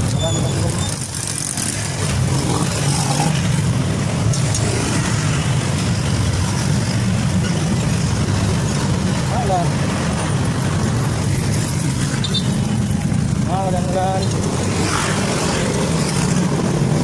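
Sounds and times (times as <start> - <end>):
vehicle and road rumble: 0.0 - 17.0.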